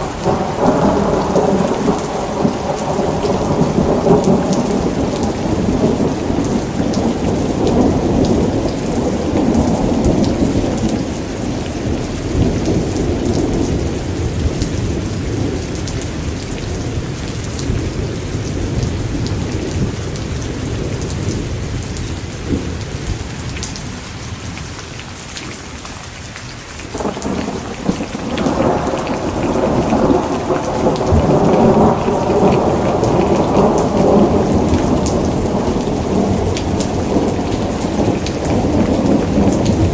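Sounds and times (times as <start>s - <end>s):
rolling thunder: 0.0s - 23.9s, 26.9s - 39.9s
steady rain: 0.0s - 39.9s.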